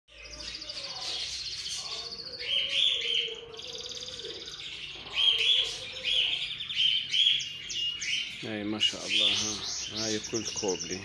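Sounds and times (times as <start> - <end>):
cockatiels chirping: 0.2 - 11.0.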